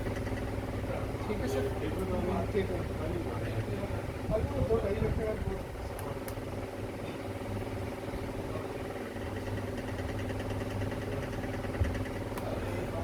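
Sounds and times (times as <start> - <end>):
machine hum with steady tones: 0.0 - 13.0.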